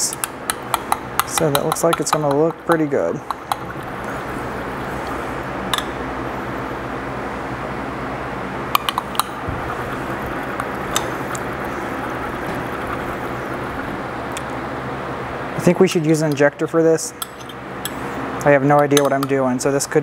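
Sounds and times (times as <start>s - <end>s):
steady fan hum: 0.0s - 20.0s.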